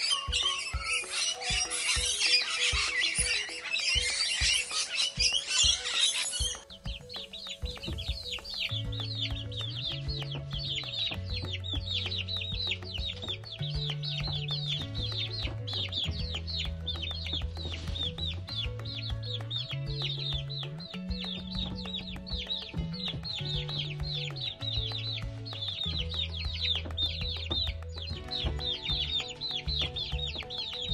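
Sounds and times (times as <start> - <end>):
background music with low bass: 0.0 - 30.9
chicks peeping: 0.0 - 30.9.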